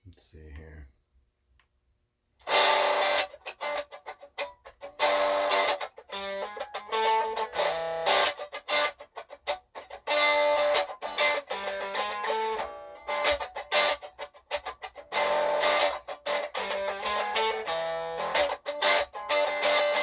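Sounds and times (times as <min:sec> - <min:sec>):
electric guitar blues lick: 0:02.4 - 0:20.0.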